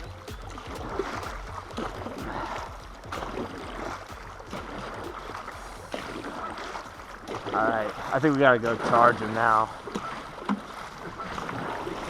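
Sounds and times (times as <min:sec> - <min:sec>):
water sloshing around canoe: 0:00.0 - 0:12.0.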